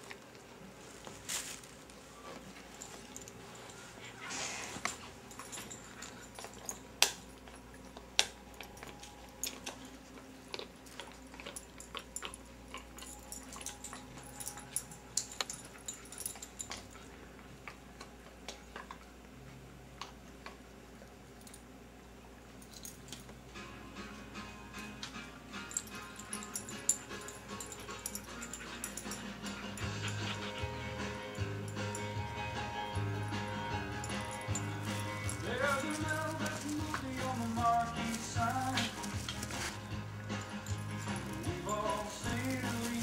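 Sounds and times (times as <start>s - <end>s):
dogs rummaging with crackles: 0.0s - 19.1s, 25.1s - 43.0s.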